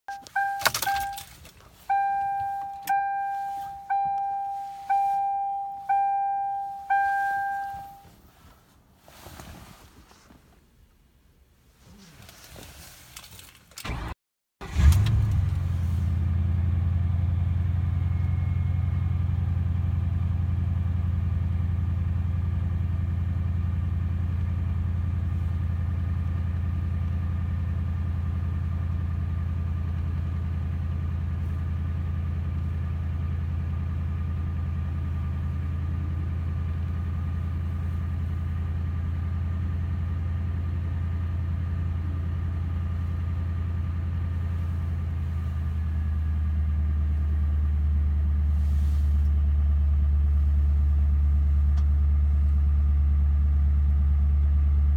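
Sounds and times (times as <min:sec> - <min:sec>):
car engine starting and idling: 0:00.1 - 0:54.9.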